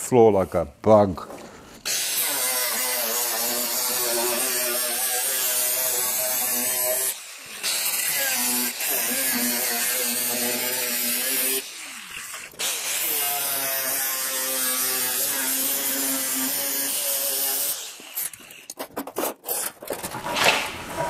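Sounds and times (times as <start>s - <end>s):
angle grinder cutting steel: 1.8s - 18.8s.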